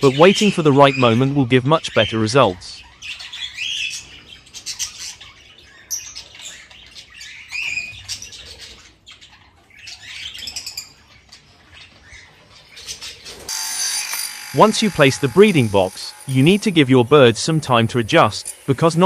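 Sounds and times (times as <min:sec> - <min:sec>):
budgerigars chirping and squawking: 0:00.0 - 0:13.5, 0:14.6 - 0:19.0.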